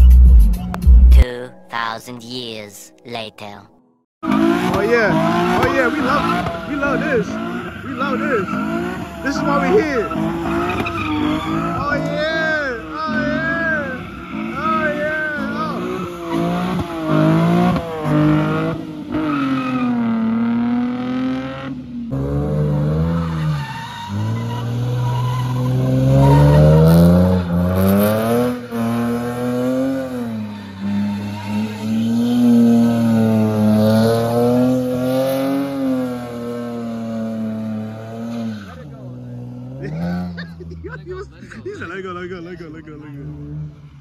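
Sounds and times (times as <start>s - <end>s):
car engine revving hard: 4.2s - 40.8s
tires squealing and skidding: 4.2s - 44.0s.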